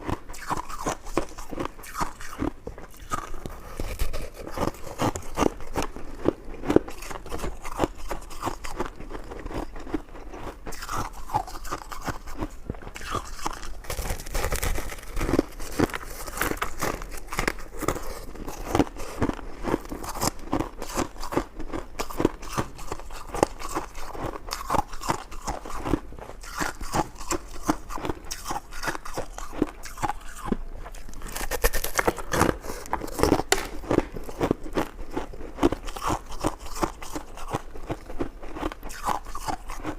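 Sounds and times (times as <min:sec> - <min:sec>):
person biting and chewing food: 0:00.0 - 0:39.9.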